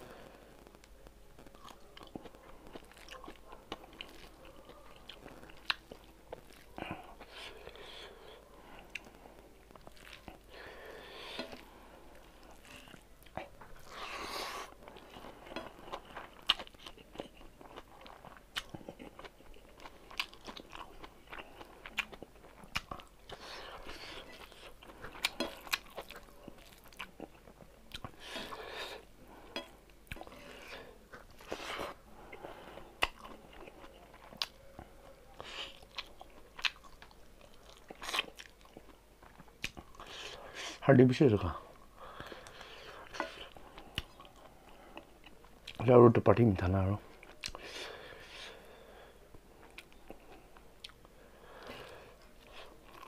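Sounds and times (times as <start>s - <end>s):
person chewing and smacking: 0.8s - 40.8s, 42.0s - 45.8s, 47.1s - 53.0s.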